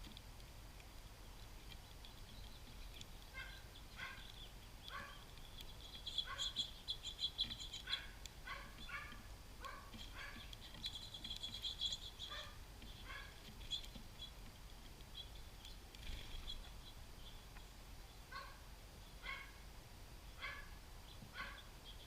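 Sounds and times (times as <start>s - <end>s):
songbirds chirping and twittering: 0.0s - 22.0s.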